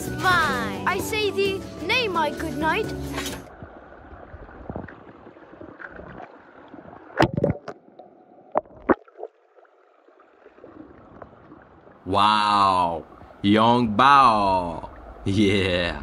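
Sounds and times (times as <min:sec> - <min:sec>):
pool water splashing: 0:00.5 - 0:16.0.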